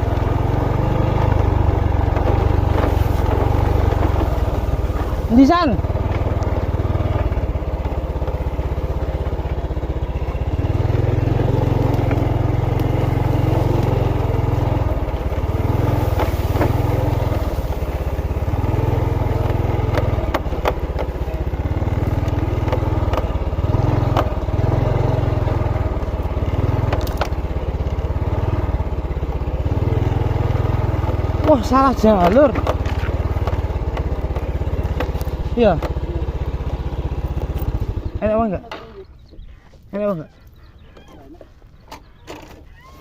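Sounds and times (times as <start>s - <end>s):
sharp knocks and rattles: 0.0s - 28.0s, 30.2s - 39.8s
motorcycle engine rumble: 0.0s - 43.0s.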